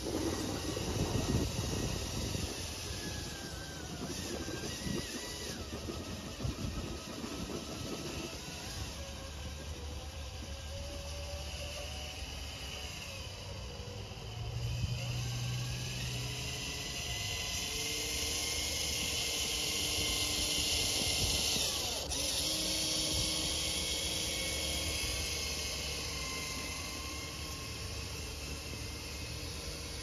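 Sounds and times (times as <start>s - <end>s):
toy truck electric motors whining: 0.0s - 30.0s.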